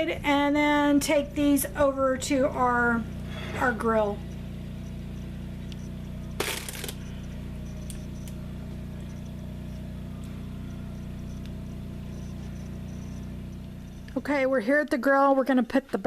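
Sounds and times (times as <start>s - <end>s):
power washer running: 0.0s - 14.4s.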